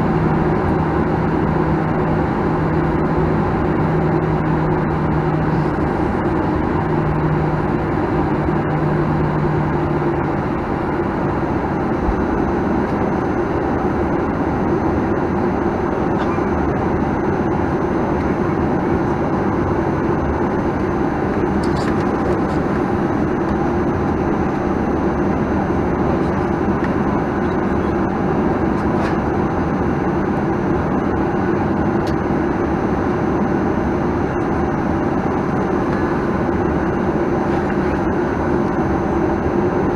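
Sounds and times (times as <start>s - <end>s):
airplane cabin noise: 0.0s - 39.9s
low hum: 0.0s - 39.9s.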